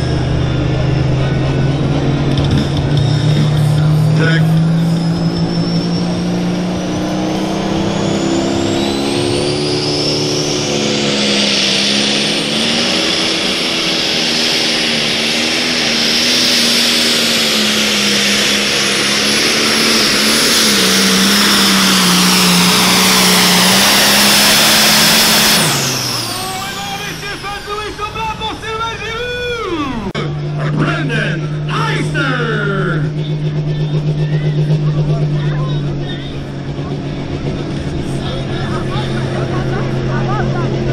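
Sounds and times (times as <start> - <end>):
diesel engine under full load: 0.0 - 40.9
high turbo whine: 0.0 - 40.9.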